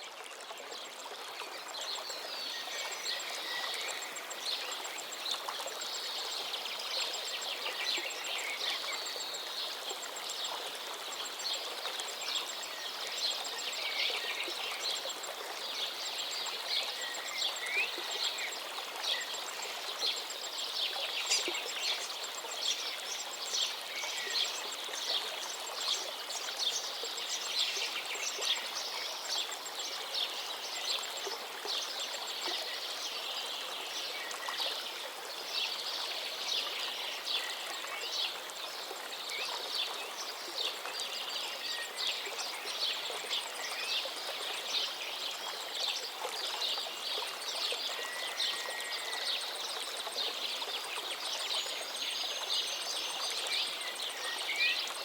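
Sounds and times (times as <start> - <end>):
stream flowing: 0.0 - 55.0
songbirds singing: 1.4 - 55.0.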